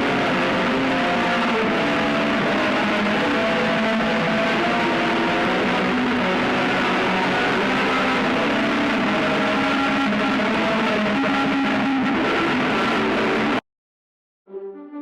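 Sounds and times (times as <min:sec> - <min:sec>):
harsh noise drone music: 0:00.0 - 0:13.6.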